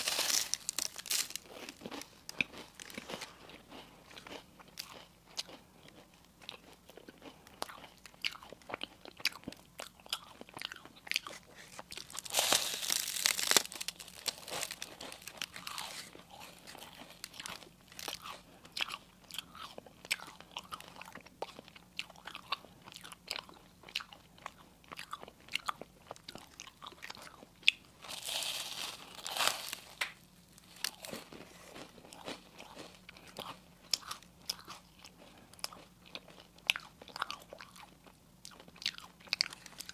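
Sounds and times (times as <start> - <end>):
person crunching crisp food: 0.0 - 39.9.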